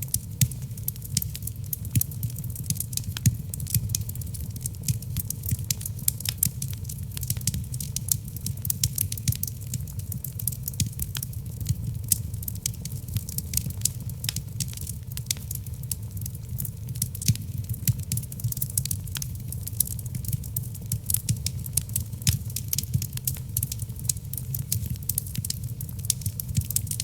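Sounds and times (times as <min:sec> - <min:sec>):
fire crackling and popping: 0:00.0 - 0:27.0
low rumble of fire: 0:00.0 - 0:27.0.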